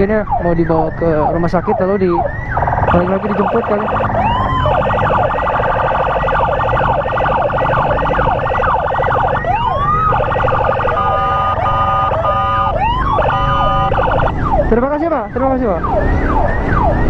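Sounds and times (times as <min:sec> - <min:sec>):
emergency sirens: 0:00.0 - 0:17.0
road and wind rumble: 0:00.0 - 0:17.0.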